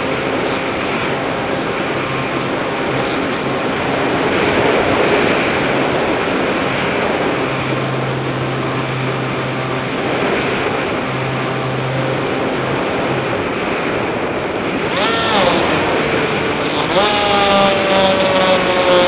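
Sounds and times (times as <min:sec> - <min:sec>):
electric motor and propeller humming: 0:00.0 - 0:19.0
wind rushing over camera: 0:00.0 - 0:19.0.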